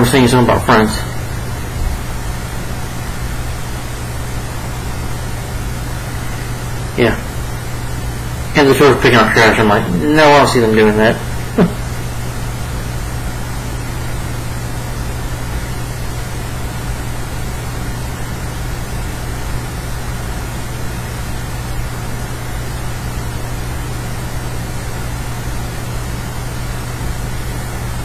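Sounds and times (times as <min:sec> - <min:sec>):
even hiss: 0:00.0 - 0:28.0
low hum: 0:00.0 - 0:28.0.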